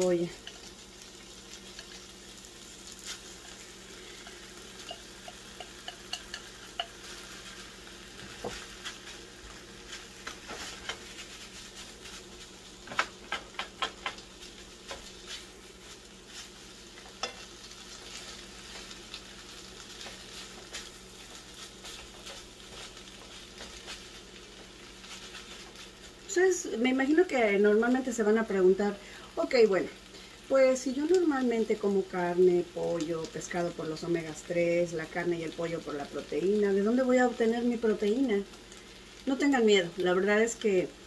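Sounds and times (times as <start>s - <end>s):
food sizzling in a pan: 0.0s - 41.0s.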